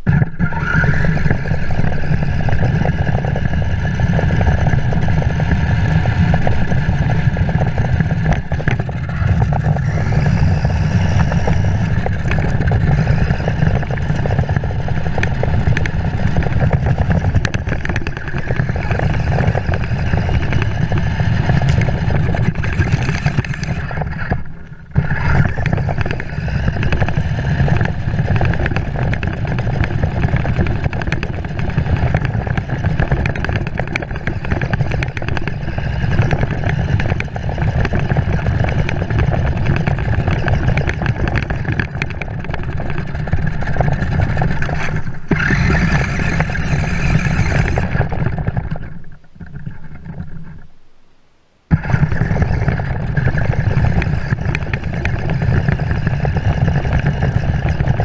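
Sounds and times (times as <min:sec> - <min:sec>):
toy tractor motor whine: 0:00.0 - 0:50.5, 0:51.7 - 0:58.0
wheels rattling over gravel: 0:00.0 - 0:50.7, 0:51.7 - 0:58.0.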